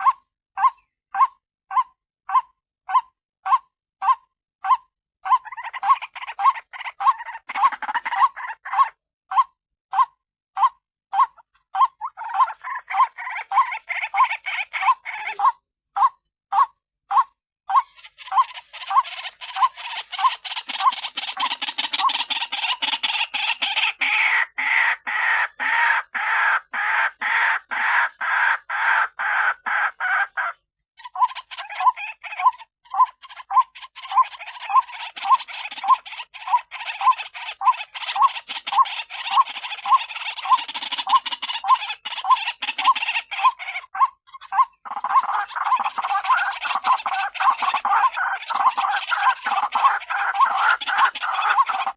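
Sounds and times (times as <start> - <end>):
harsh dense bird chattering: 5.2 - 9.0, 11.8 - 16.2, 17.7 - 51.9.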